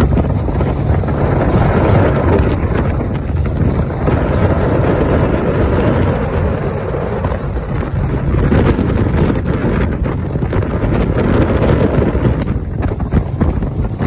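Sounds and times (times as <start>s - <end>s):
water rushing along boat hull: 0.0s - 14.0s
wind buffeting microphone: 0.0s - 14.0s.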